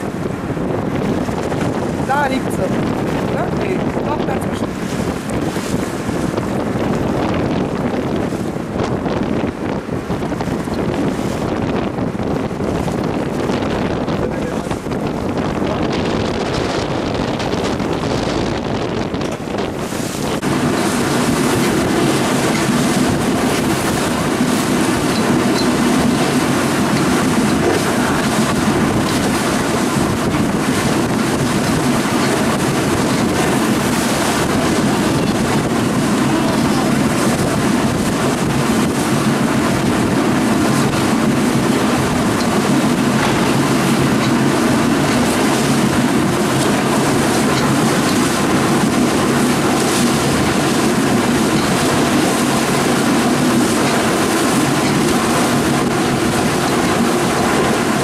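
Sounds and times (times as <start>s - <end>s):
motorboat engines running: 0.0s - 58.0s
water slapping against hull: 0.0s - 58.0s.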